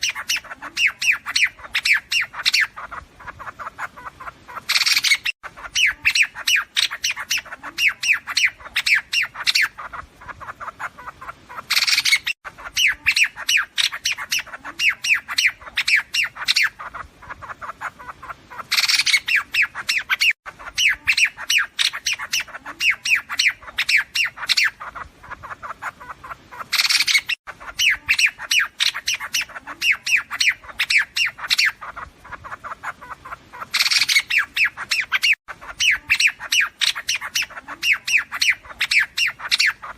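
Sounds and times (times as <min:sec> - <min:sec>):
birds squawking chatter: 0:00.0 - 0:39.9.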